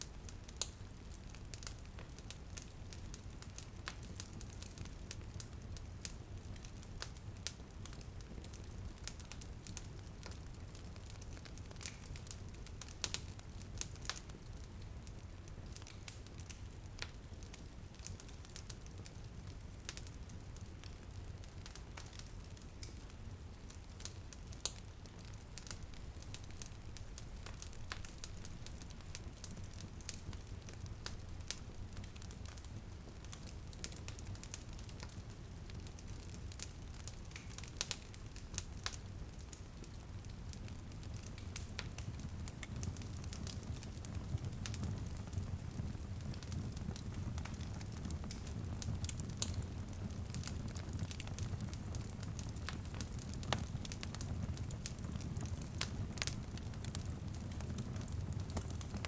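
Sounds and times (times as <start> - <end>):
faint hiss of light rain: 0.0 - 59.0
low rumble of flames: 0.0 - 59.0
wood fire crackling and popping: 0.0 - 59.0.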